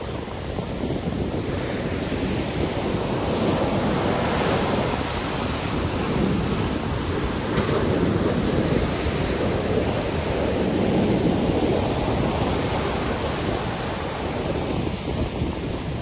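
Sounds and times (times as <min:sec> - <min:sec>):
waves breaking: 0:00.0 - 0:16.0
wind buffeting microphone: 0:00.0 - 0:16.0.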